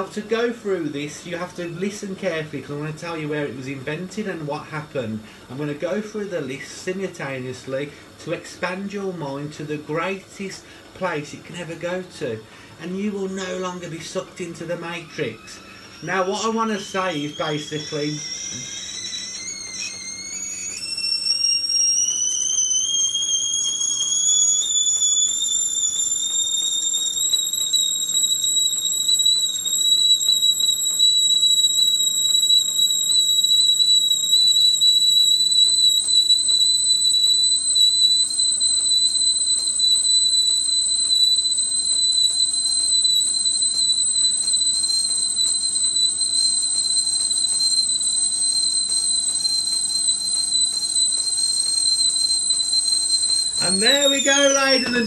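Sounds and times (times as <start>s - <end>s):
kettle whistling: 0.0s - 55.0s.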